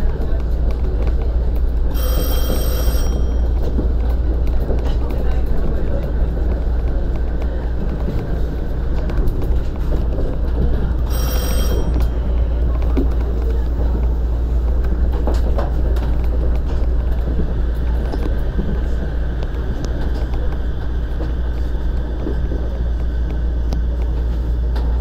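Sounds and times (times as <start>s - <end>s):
monorail car rumble and hum: 0.0s - 25.0s.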